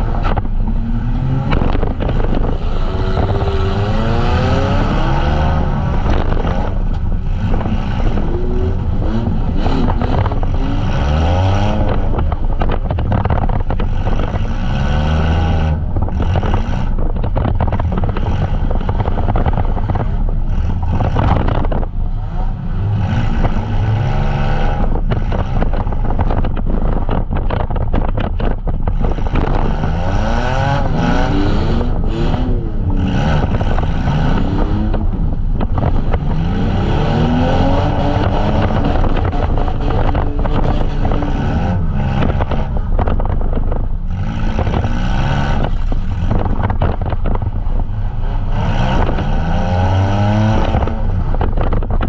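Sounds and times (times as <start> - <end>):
van engines revving: 0.0 - 52.0.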